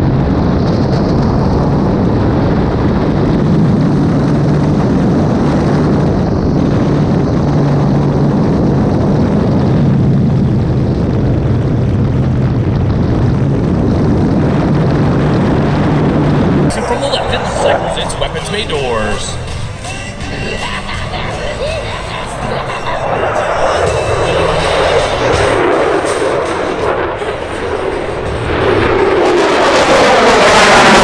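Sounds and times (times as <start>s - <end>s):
aircraft engine noise: 0.0s - 31.0s
low hum: 0.0s - 31.0s.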